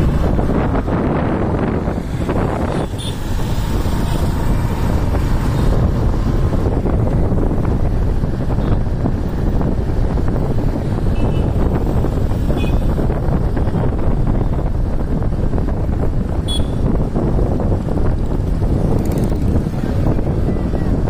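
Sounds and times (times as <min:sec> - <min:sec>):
motorbike traffic rumble: 0:00.0 - 0:21.0
wind buffeting microphone: 0:00.0 - 0:21.0.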